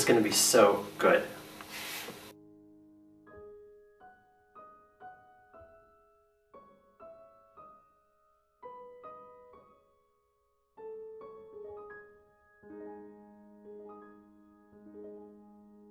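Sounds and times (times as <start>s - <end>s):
gentle solo piano melody: 2.6s - 15.9s.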